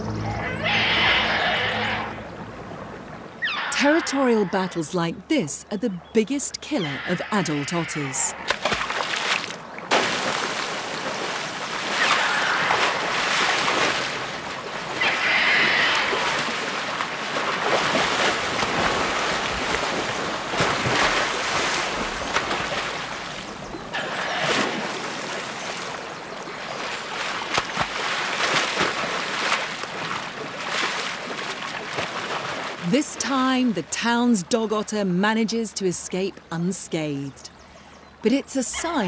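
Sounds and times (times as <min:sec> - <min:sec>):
water splashing and churning: 0:00.0 - 0:05.4, 0:06.7 - 0:34.3.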